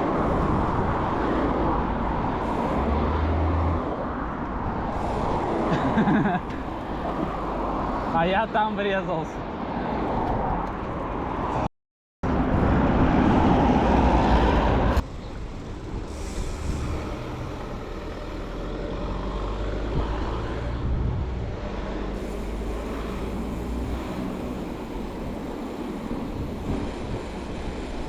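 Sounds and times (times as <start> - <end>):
engine and traffic hum: 0.0 - 28.0
road noise rushing: 0.0 - 28.0.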